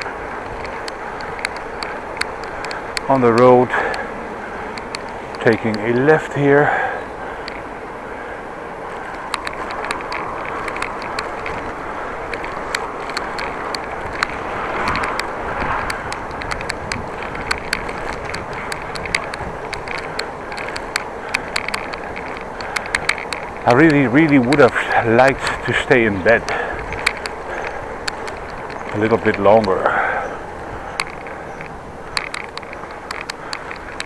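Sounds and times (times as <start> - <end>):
bicycle clicks and rattles: 0.0 - 34.0
wind and tyre noise: 0.0 - 34.0.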